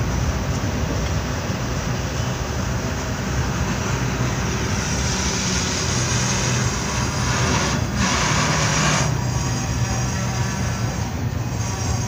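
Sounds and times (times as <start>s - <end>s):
diesel locomotive drone: 0.0s - 12.0s
freight train wheels rumbling on rails: 0.0s - 12.0s.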